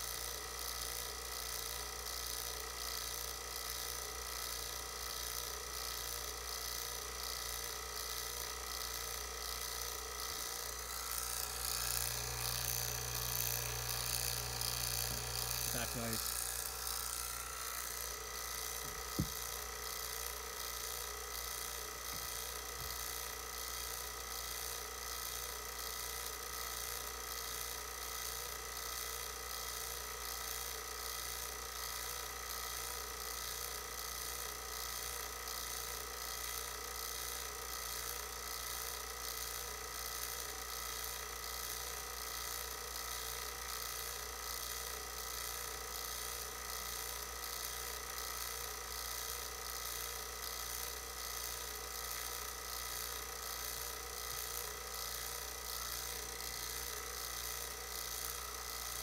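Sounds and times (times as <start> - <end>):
vacuum pump motor humming: 0.0 - 59.0.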